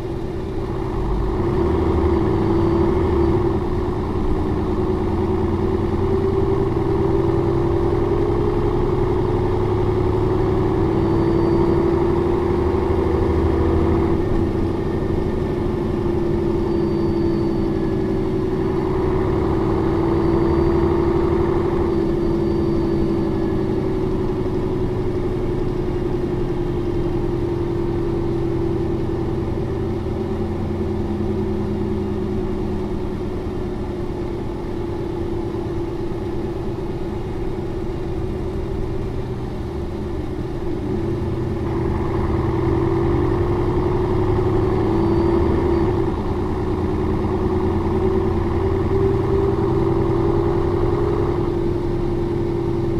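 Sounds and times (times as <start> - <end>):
bus diesel engine running: 0.0 - 52.9.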